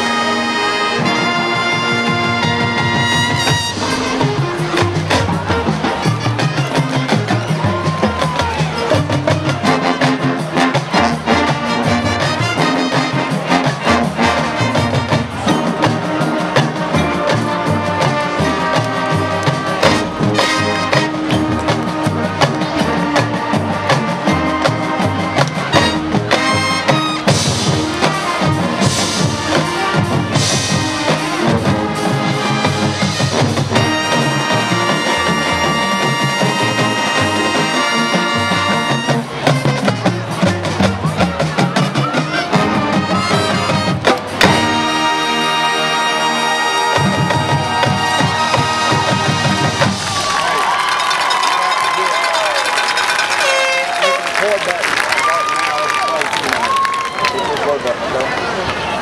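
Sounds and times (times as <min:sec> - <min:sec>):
marching band playing: 0:00.0 - 0:59.0.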